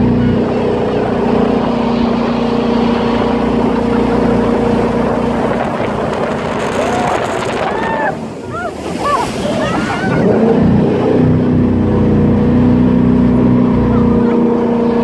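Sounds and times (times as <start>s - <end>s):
boat engine humming: 0.0s - 15.0s
water rushing: 0.0s - 15.0s
wind: 0.0s - 15.0s.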